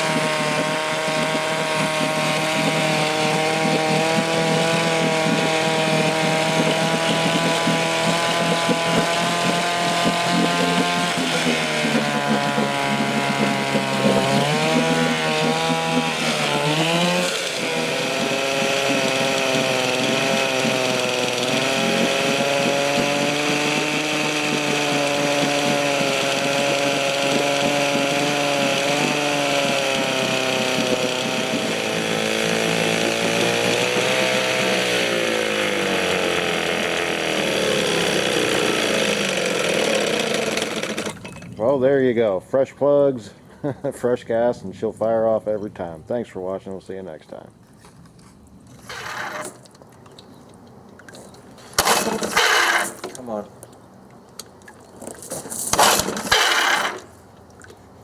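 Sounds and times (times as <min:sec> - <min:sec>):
outboard motor running: 0:00.0 - 0:42.0, 0:47.6 - 0:58.0.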